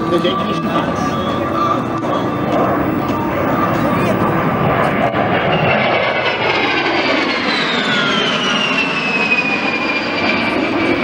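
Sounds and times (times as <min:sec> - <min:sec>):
jet engines on a low pass: 0:00.0 - 0:11.0.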